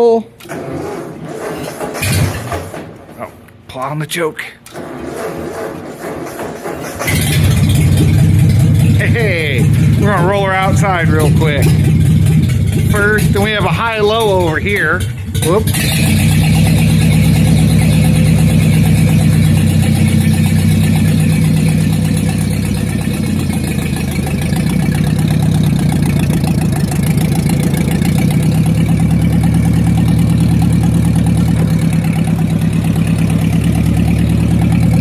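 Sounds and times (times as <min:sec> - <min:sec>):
tractor engine running: 0:04.6 - 0:35.0.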